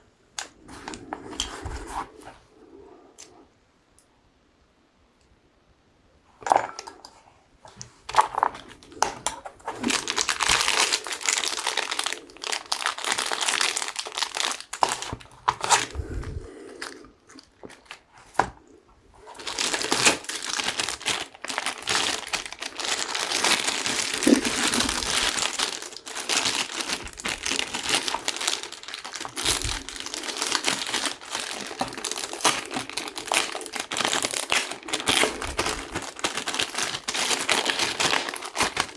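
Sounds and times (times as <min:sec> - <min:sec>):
packaging crinkling: 0:07.7 - 0:38.9.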